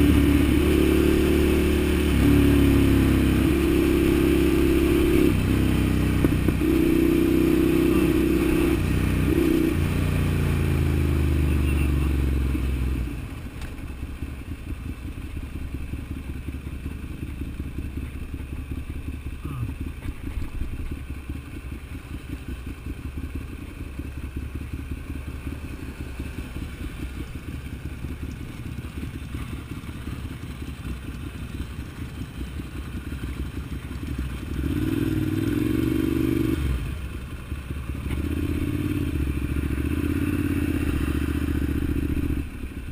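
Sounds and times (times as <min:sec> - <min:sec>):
motorcycle engine revving: 0:00.0 - 0:13.4, 0:14.8 - 0:42.9
motorcycle engine idling: 0:07.6 - 0:36.0, 0:36.6 - 0:42.9.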